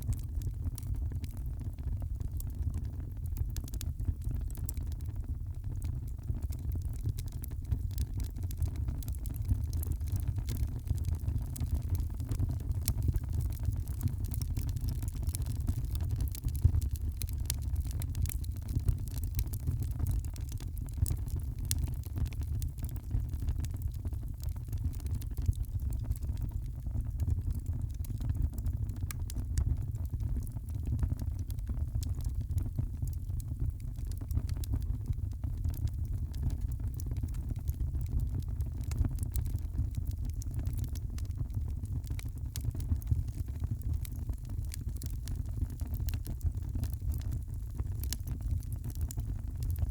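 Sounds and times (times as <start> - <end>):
wood fire crackling: 2.3 - 49.9.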